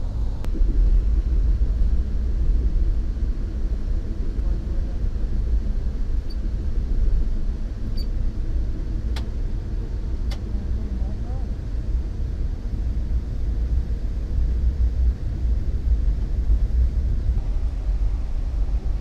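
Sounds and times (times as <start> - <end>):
train rumbling from inside carriage: 0.0 - 19.0.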